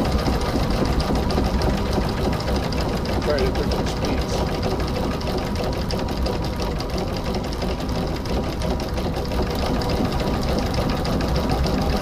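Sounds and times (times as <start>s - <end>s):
rapid engine ticking: 0.0s - 12.0s
steam boat engine running: 0.0s - 12.0s.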